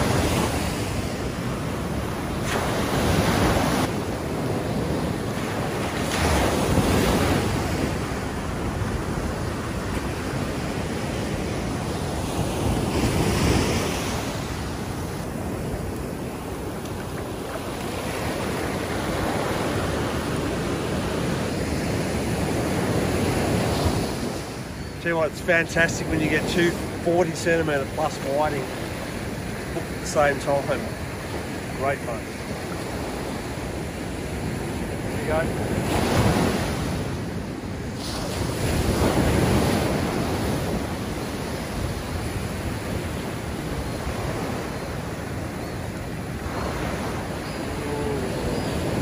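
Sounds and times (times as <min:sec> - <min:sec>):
ocean surf breaking on beach: 0:00.0 - 0:49.0.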